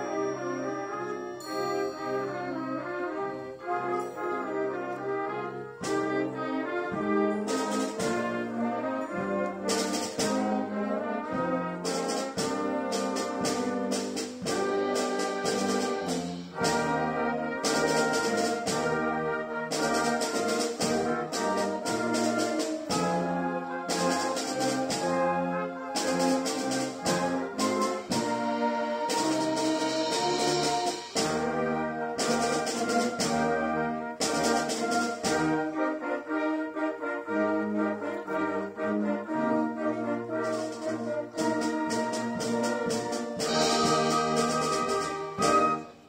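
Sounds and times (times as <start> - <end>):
percussion strokes: 0.0 - 35.9, 40.3 - 46.0
wind band playing: 0.0 - 46.0.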